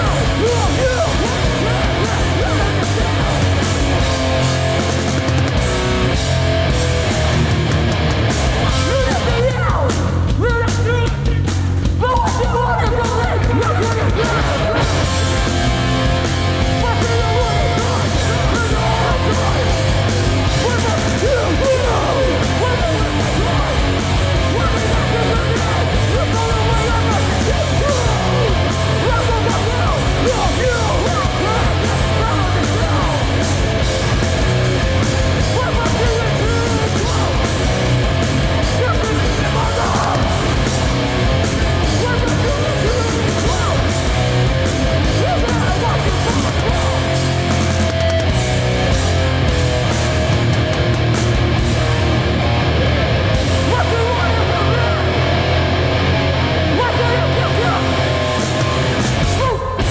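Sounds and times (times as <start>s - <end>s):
shouted vocals: 0.0s - 7.5s, 8.2s - 48.2s, 52.2s - 59.9s
punk band playing: 0.0s - 59.9s.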